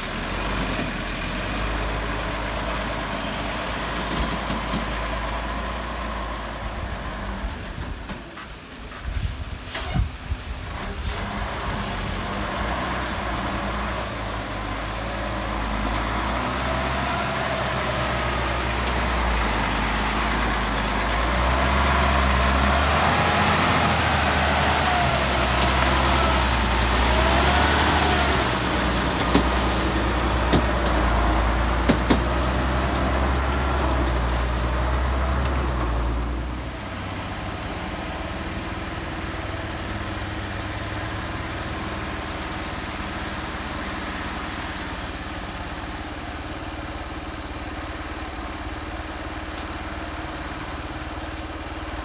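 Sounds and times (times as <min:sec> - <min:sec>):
truck diesel engine: 0:00.0 - 0:52.0.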